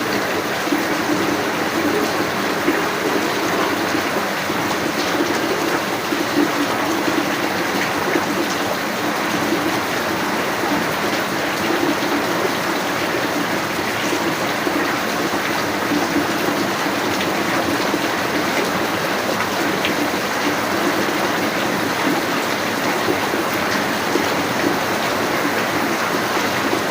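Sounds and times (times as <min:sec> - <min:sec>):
rain falling steadily: 0:00.0 - 0:26.9.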